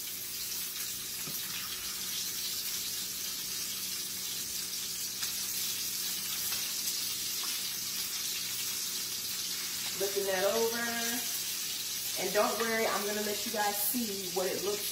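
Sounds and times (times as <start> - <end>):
fish searing in a hot pan: 0.0 - 14.9.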